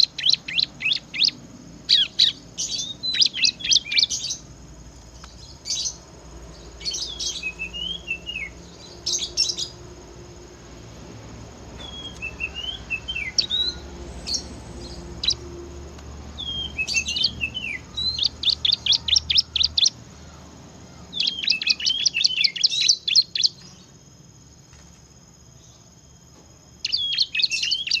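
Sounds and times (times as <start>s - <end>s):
bird chirping and trilling: 0.0s - 9.9s, 11.6s - 23.8s, 26.8s - 28.0s.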